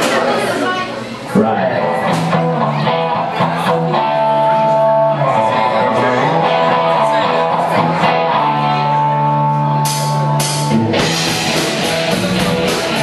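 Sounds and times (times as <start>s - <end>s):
electric guitar strumming chords: 1.3s - 13.0s.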